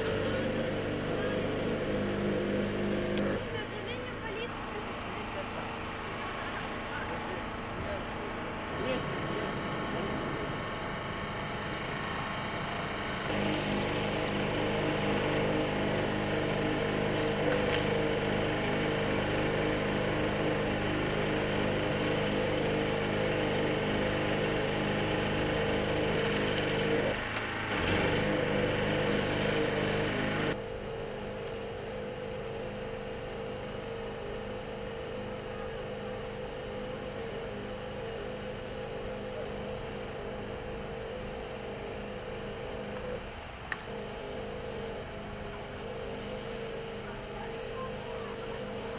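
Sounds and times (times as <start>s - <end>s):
generator engine running: 0.0s - 48.9s
power tool running: 0.0s - 48.9s.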